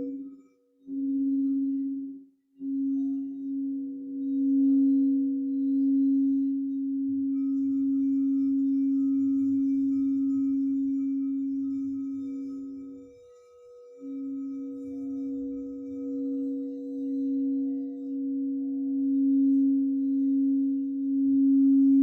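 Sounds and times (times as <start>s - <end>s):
singing bowl ringing: 0.0s - 1.9s, 2.6s - 22.0s.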